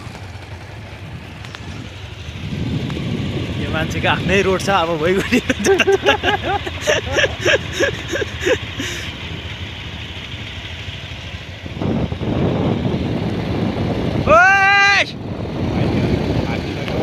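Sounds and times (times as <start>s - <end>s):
wind rushing over microphone: 0.0s - 8.4s, 11.3s - 17.0s
motorcycle running: 0.0s - 17.0s.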